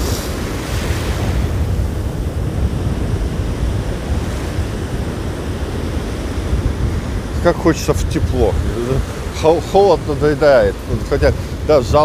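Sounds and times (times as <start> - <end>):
sea surf breaking: 0.0 - 12.0
wind buffeting microphone: 0.0 - 12.0.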